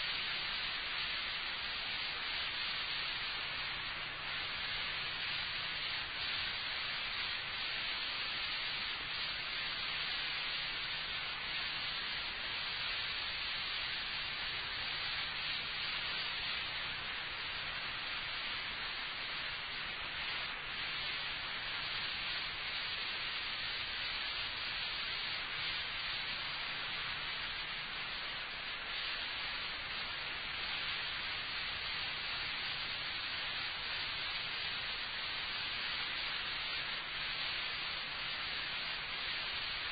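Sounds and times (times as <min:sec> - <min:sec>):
recording hiss: 0:00.0 - 0:39.9.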